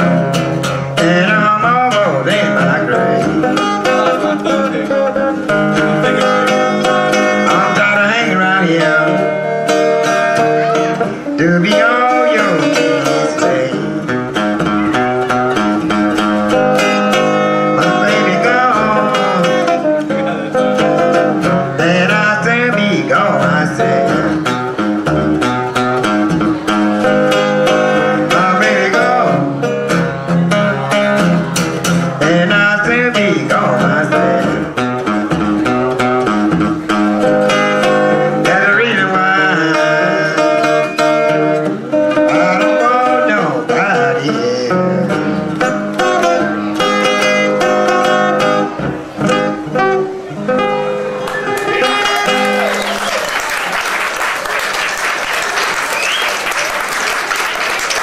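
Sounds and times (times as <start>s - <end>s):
acoustic guitar playing blues: 0.0s - 58.0s.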